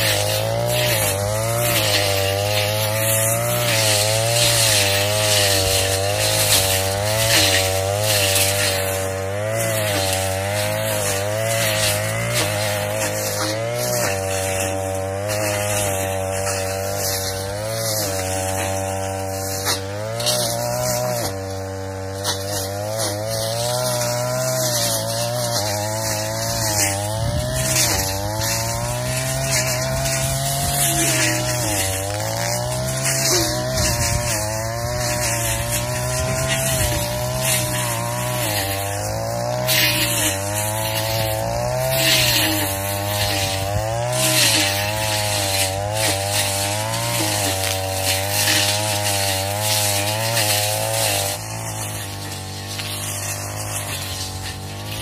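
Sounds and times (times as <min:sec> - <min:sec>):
brush cutter engine cutting grass: 0:00.0 - 0:55.0.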